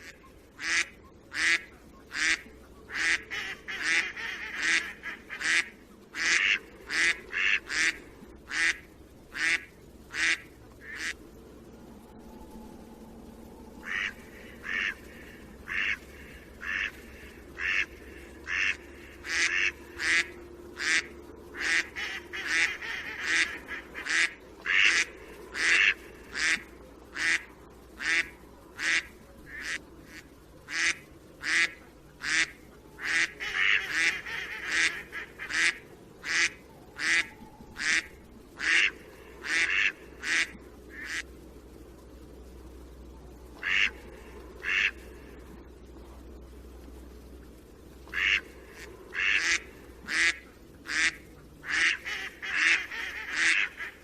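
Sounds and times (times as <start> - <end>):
duck quacking: 0.0 - 11.2, 13.8 - 41.3, 43.6 - 45.1, 48.1 - 54.0.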